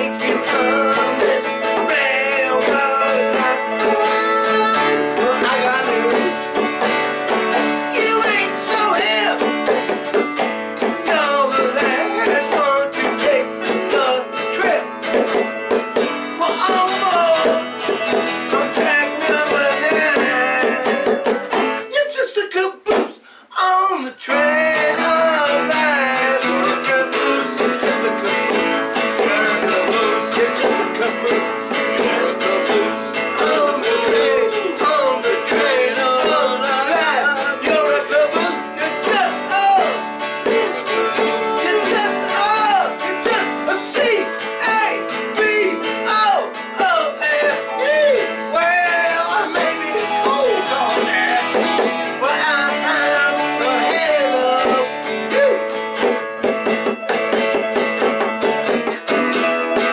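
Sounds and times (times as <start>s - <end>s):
hand drum: 0.0s - 21.8s, 24.8s - 59.9s
strummed acoustic guitar: 0.0s - 59.9s.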